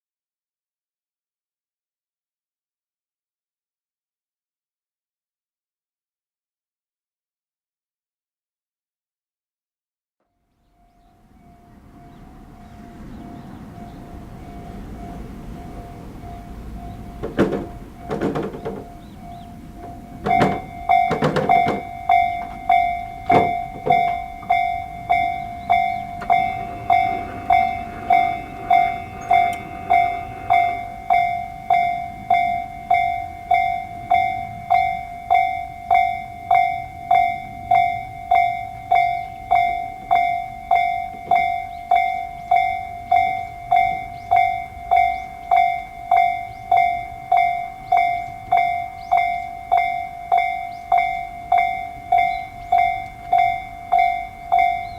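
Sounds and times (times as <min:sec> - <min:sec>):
level crossing warning bell dinging: 0:10.7 - 0:54.9.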